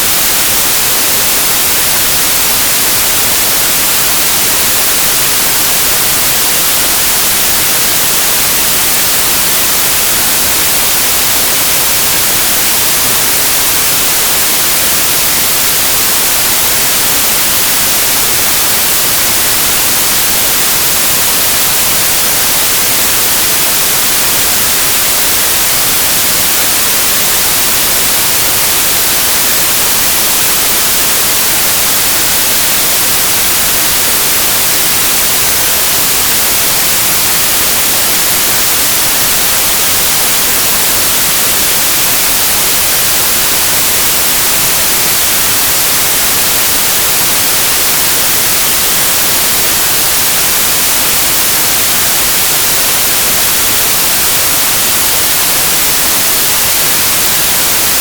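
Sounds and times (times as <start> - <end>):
electronic white noise hiss: 0.0 - 58.0.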